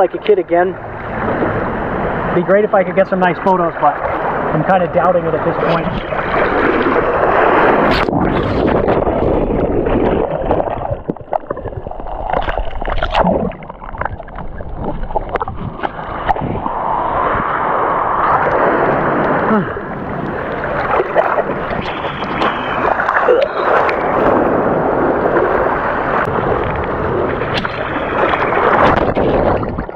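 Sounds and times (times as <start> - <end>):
gurgling water: 0.0 - 29.9
surf churning and sloshing: 0.0 - 29.9
sharp water splashes: 0.8 - 29.9.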